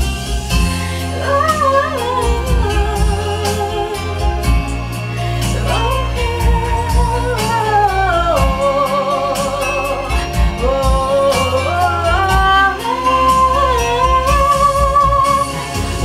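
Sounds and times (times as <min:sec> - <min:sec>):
recorded accompaniment with bass: 0:00.0 - 0:16.0
woman singing with vibrato: 0:00.7 - 0:16.0.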